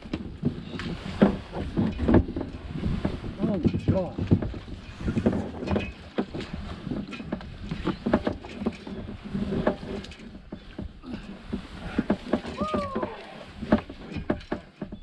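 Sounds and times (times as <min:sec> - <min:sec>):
kayak hauled through mud: 0:00.0 - 0:15.0.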